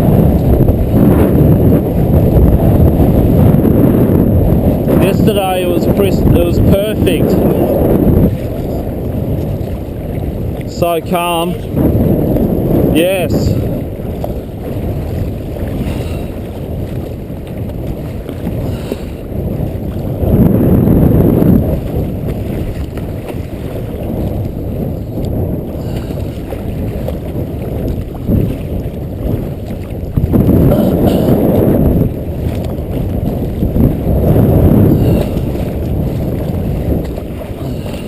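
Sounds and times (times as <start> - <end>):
strong wind rumbling on microphone: 0.0 - 38.0.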